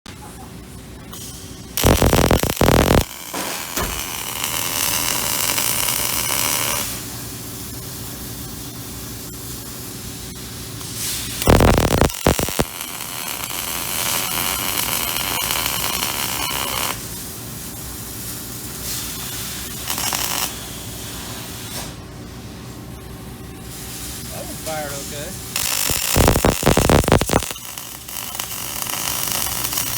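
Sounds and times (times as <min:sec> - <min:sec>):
low shop hum: 0:00.1 - 0:29.9
welding arc hissing: 0:01.2 - 0:22.0, 0:23.7 - 0:29.9.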